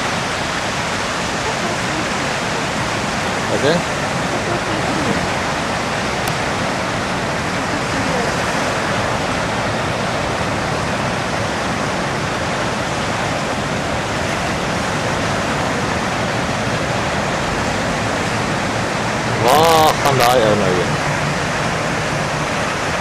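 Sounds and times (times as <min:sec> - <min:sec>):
ocean surf breaking: 0:00.0 - 0:23.0.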